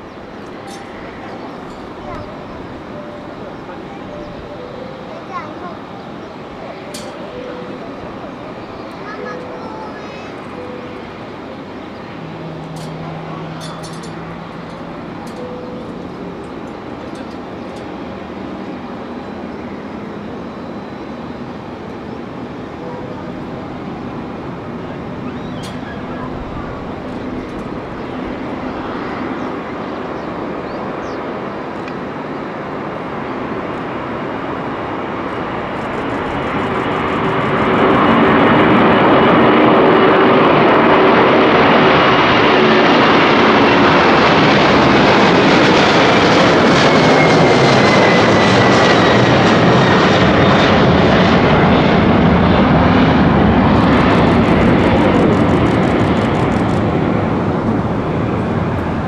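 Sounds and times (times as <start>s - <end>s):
high jet whine: 0.0s - 59.0s
jet airliner taking off: 0.0s - 59.0s.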